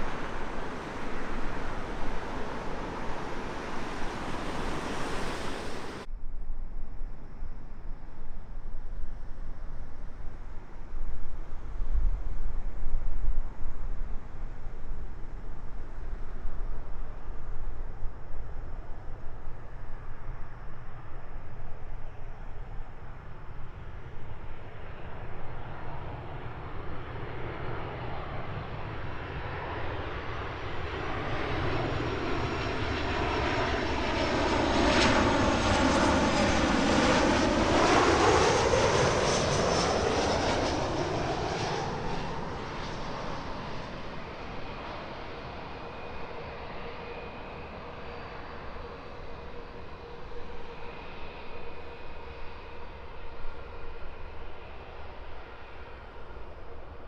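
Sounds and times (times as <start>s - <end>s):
jet airliner passing over: 0.0s - 57.0s.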